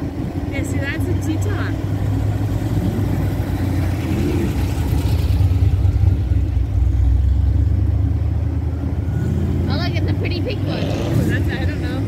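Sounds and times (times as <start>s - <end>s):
car engines passing slowly: 0.0s - 12.0s.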